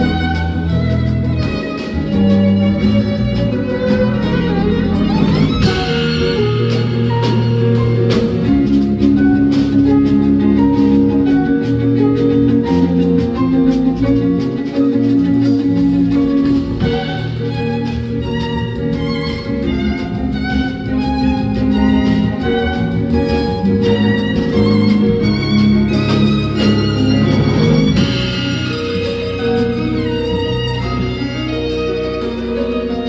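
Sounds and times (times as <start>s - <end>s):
piano: 0.0s - 33.0s
violin: 0.0s - 33.0s
walking double bass line: 0.0s - 33.0s.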